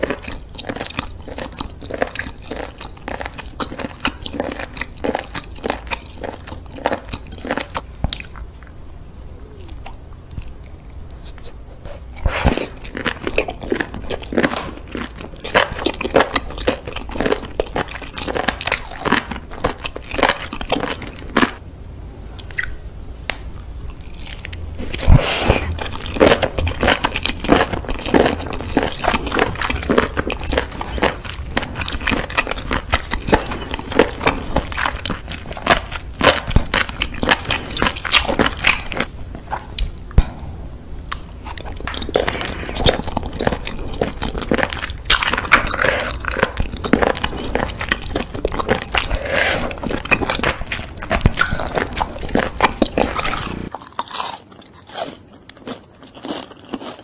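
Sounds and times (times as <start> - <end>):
mouth chewing with sticky clicks: 0.0 - 21.6, 22.4 - 40.2, 41.1 - 57.0.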